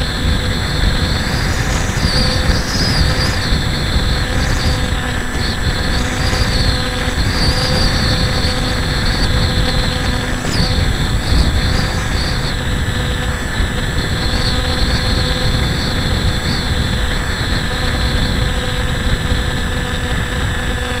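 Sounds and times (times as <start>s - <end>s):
electric motor and propeller whining: 0.0s - 21.0s
wind rush on microphone: 0.0s - 21.0s.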